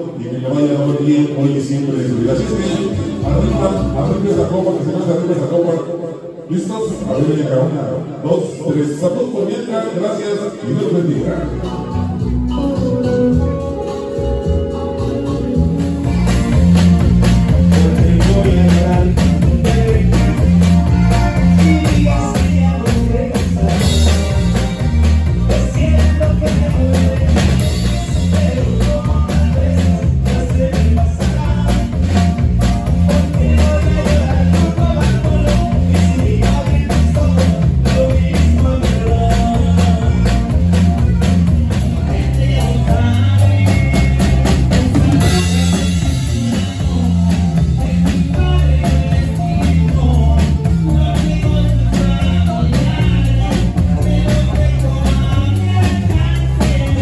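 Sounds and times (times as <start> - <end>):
man singing into a microphone: 0.0 - 15.0, 17.4 - 57.0
live cumbia band playing: 0.0 - 57.0.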